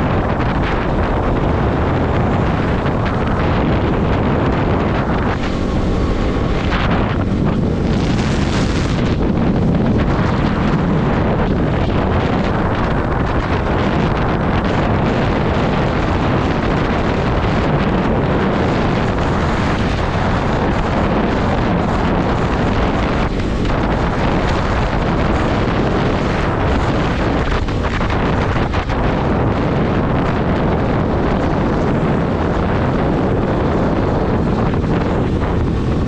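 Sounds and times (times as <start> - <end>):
motorcycle engine running: 0.0 - 36.0
tyres on wet road: 0.0 - 36.0
wind rush on microphone: 0.0 - 36.0.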